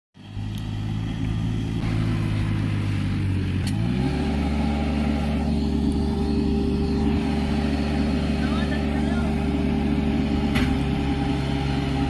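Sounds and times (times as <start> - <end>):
tractor diesel engine labouring: 0.2 - 12.0.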